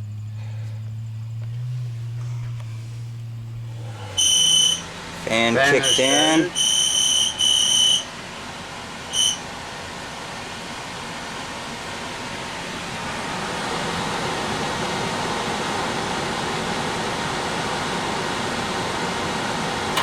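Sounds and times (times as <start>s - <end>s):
furnace blower fan running: 0.0s - 20.0s.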